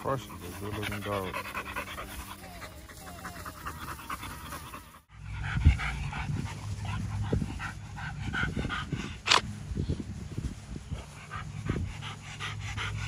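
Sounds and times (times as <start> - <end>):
dog panting: 0.0 - 9.4, 10.9 - 13.0.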